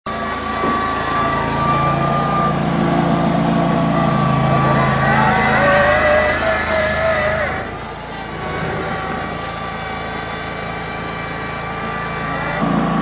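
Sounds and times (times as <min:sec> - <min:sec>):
engine humming: 0:00.1 - 0:13.0
high wavering whine: 0:00.1 - 0:13.0.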